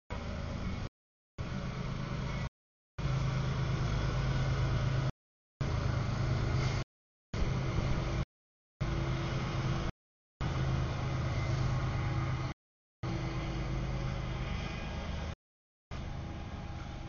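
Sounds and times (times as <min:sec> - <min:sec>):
freight train rumbling past: 0:00.1 - 0:06.8, 0:07.4 - 0:08.2, 0:08.8 - 0:17.0.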